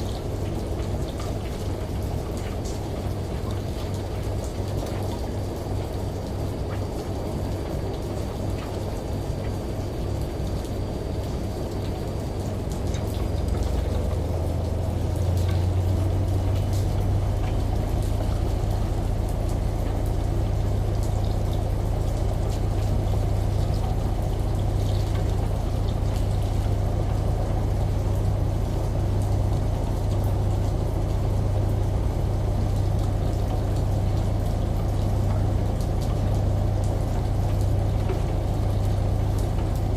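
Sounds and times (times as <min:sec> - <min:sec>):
rain and running water: 0:00.0 - 0:39.9
washing machine humming: 0:00.0 - 0:39.9.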